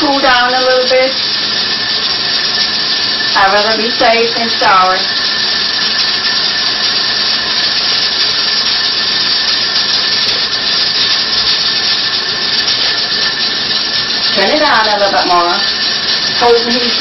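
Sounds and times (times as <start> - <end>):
pressure cooker steam hissing: 0.0 - 17.0.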